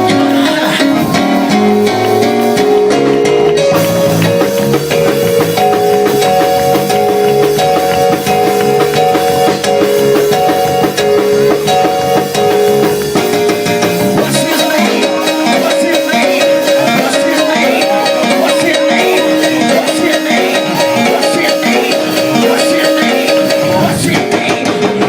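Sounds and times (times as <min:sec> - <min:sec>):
bass: 0:00.0 - 0:25.0
drum kit: 0:00.0 - 0:25.0
organ chords: 0:00.0 - 0:25.0.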